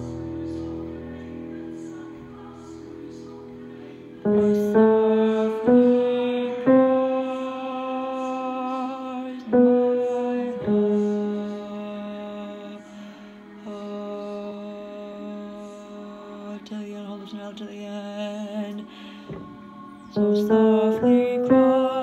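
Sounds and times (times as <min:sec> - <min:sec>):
slow soft music with held notes: 0:00.0 - 0:22.0.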